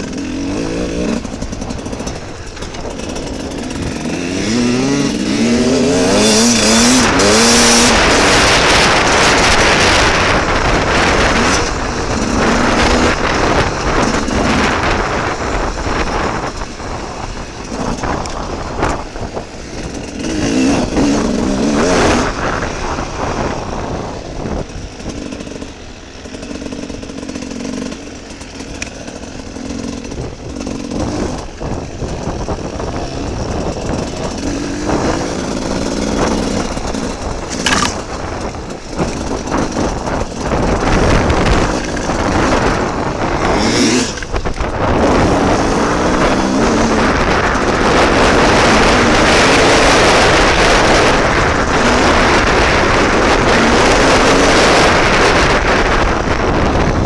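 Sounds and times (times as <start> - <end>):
motorcycle engine revving: 0.0 - 57.0
wind rushing on microphone: 0.0 - 57.0.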